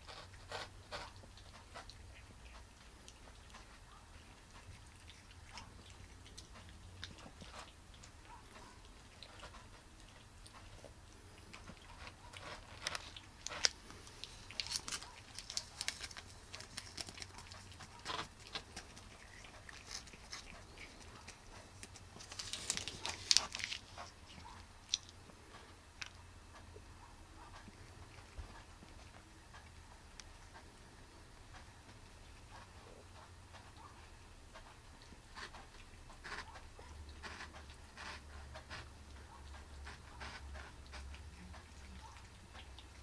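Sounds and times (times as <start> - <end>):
small clicks and crackles: 0.0 - 26.7, 31.5 - 43.0
cats licking and chewing: 0.0 - 43.0.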